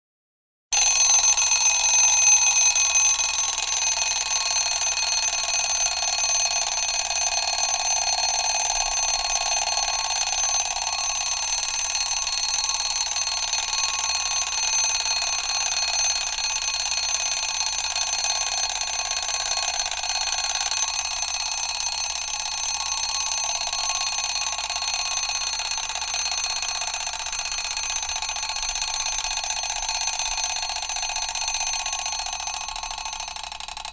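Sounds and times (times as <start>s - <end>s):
alarm clock ringing: 0.8s - 33.9s.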